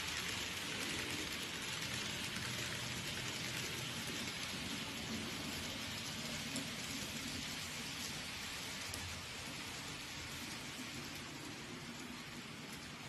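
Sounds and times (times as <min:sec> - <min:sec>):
model trains rolling on track: 0:00.0 - 0:13.0.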